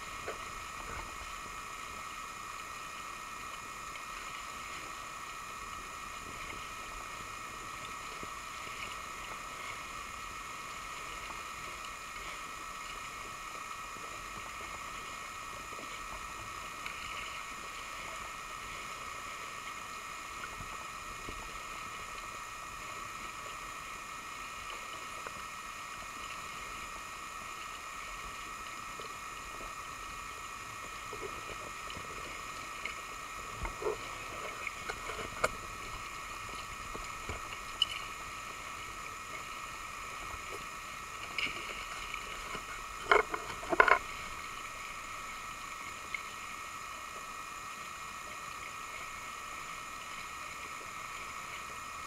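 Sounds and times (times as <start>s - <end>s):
steady high hum: 0.0s - 52.0s
water lapping against kayak: 0.0s - 52.0s.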